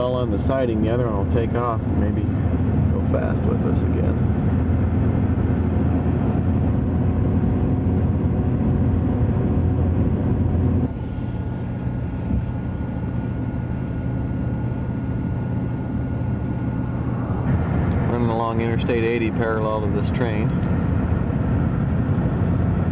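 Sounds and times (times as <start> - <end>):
road and wind rumble in car: 0.0 - 22.9.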